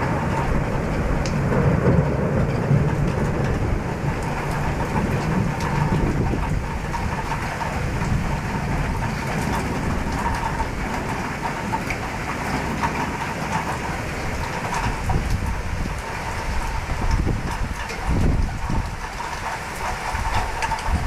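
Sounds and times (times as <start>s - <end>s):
heavy rain pouring: 0.0s - 21.0s
thunder rumble: 0.0s - 21.0s.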